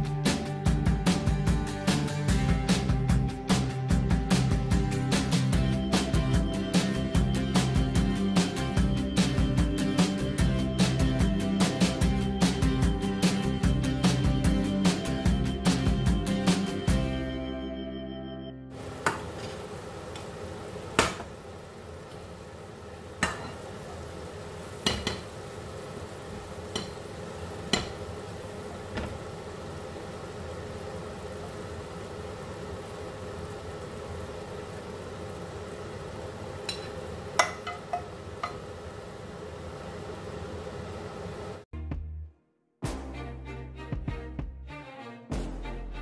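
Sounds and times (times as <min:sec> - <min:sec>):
sauce sizzling in a frying pan: 0:00.3 - 0:16.8, 0:18.8 - 0:41.6.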